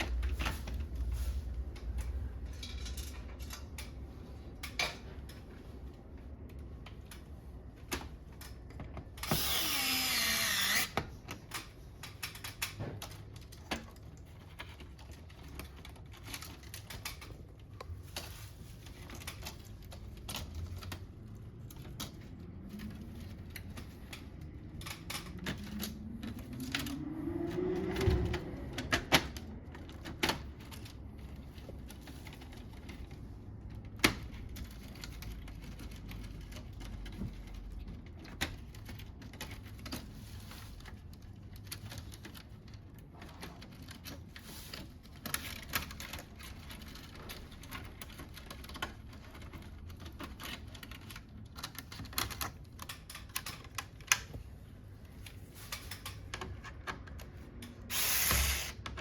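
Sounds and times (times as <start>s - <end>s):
plastic parts clicking and knocking: 0.0s - 59.0s.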